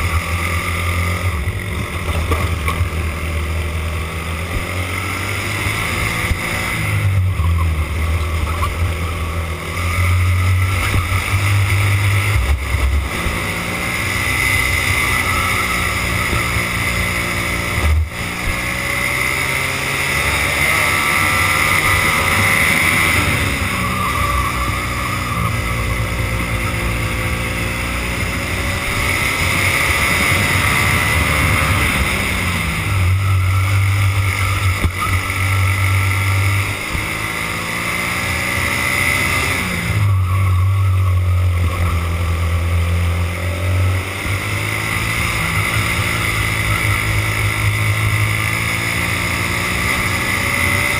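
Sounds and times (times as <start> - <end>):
kart engine revving: 0.0 - 50.9.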